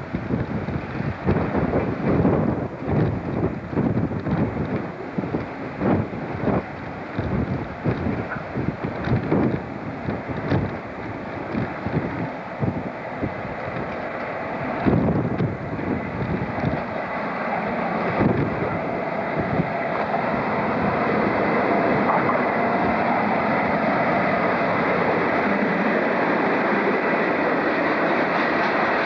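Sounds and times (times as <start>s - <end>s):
diesel locomotive passing: 0.0s - 29.0s
rumble of wagons rolling: 0.0s - 29.0s
wind buffeting microphone: 0.0s - 29.0s.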